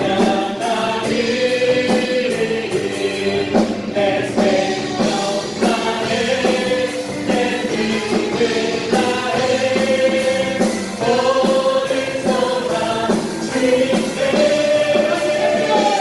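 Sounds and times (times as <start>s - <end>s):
group singing worship song: 0.0s - 16.0s
instrumental accompaniment with beat: 0.0s - 16.0s.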